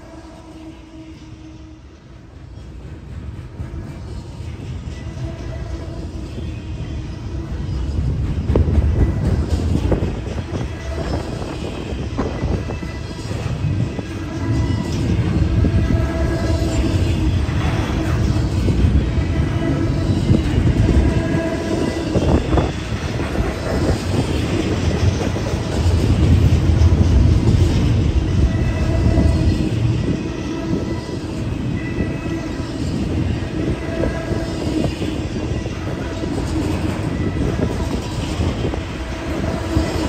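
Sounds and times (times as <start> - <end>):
freight train rumbling: 0.0 - 40.0.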